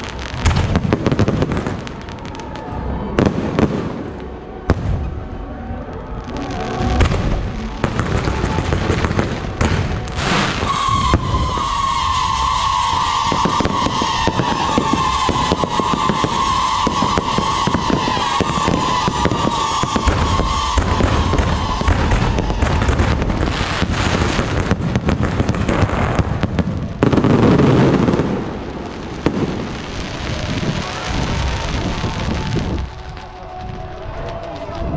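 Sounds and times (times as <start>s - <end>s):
fireworks bursting and popping: 0.0s - 5.3s, 6.0s - 34.9s.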